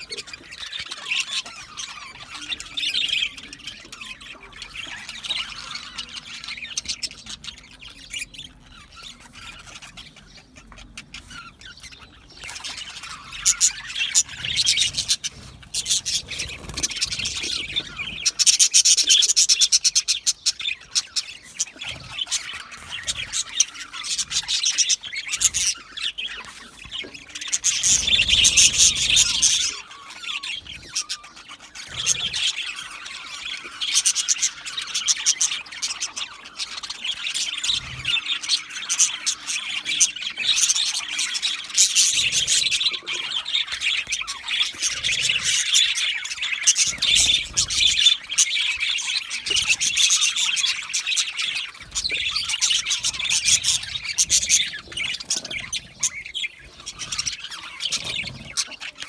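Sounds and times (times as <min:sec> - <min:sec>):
bird squawks: 0:00.0 - 0:59.0
budgerigars chirping: 0:00.0 - 0:59.0.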